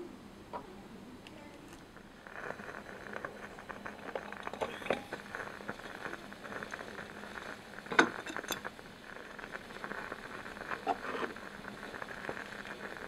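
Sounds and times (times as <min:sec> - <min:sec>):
broth bubbling in a pot: 0:01.6 - 0:13.0.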